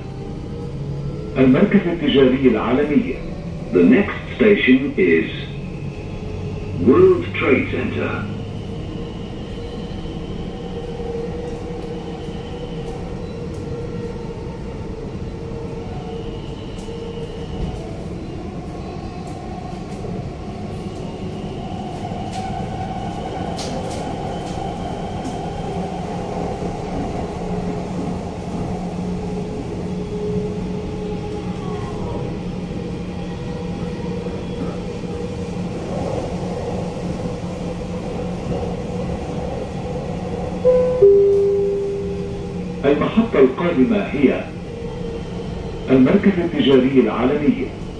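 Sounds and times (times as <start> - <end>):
train motors and wheels hum: 0.0 - 47.9.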